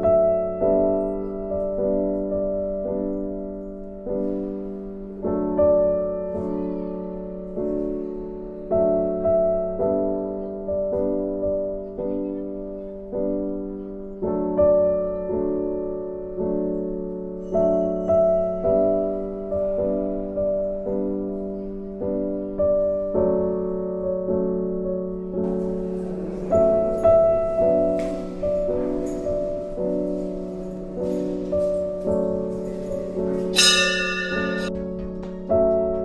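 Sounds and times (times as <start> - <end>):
slow piano music: 0.0 - 36.0.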